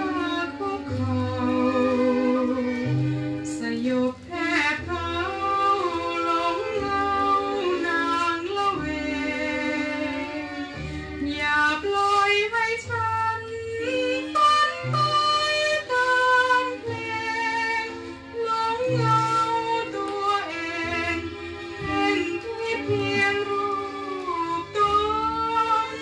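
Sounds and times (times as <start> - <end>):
woman singing with vibrato: 0.0 - 2.8, 3.5 - 10.6, 11.2 - 26.0
orchestral accompaniment: 0.0 - 26.0.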